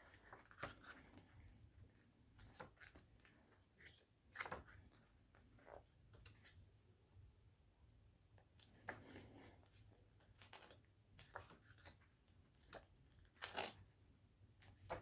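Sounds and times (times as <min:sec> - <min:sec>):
book pages turning and rustling: 0:00.0 - 0:06.6, 0:08.6 - 0:13.9, 0:14.6 - 0:15.0.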